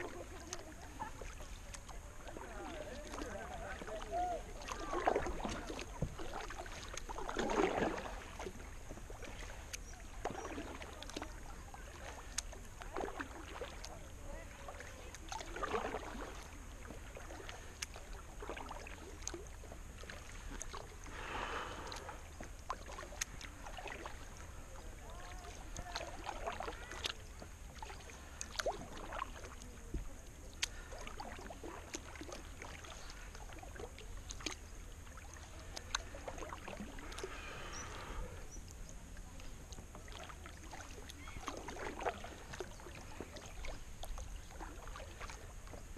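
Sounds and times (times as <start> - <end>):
paddle strokes in water: 0.0 - 45.9
water drips and splashes: 0.0 - 45.9.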